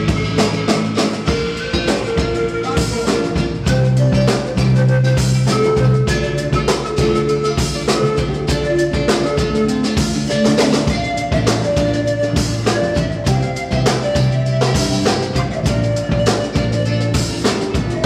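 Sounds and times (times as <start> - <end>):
drum kit beat: 0.0 - 18.0
electric bass: 0.0 - 18.0
panpipe melody: 0.0 - 18.0.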